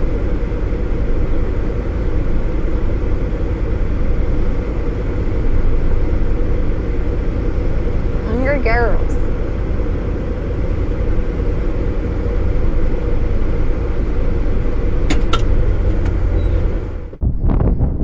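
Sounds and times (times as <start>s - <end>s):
faint steady hum: 0.0s - 17.2s
vehicle engine rumbling: 0.0s - 18.0s.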